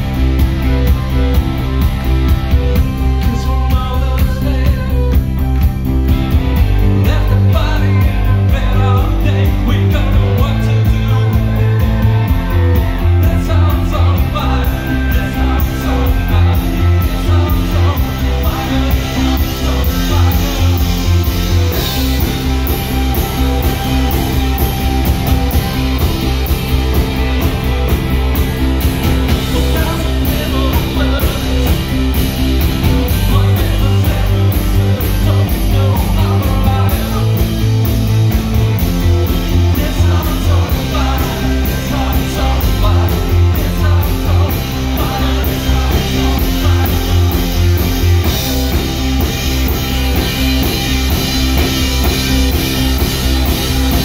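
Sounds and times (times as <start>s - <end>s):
drums: 0.0s - 54.0s
electric guitar: 0.0s - 54.0s
keyboard: 0.0s - 54.0s
man singing: 2.6s - 54.0s.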